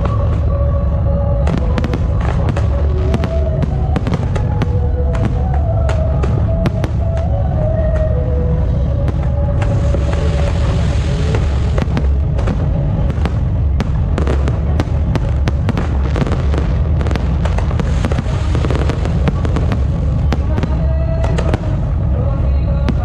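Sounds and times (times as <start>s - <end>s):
fireworks bangs and crackles: 0.0s - 23.0s
low rumble: 0.0s - 23.0s.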